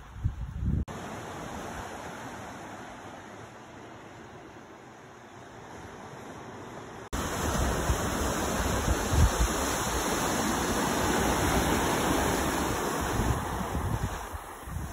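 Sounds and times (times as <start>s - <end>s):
ocean surf breaking: 0.9s - 14.9s.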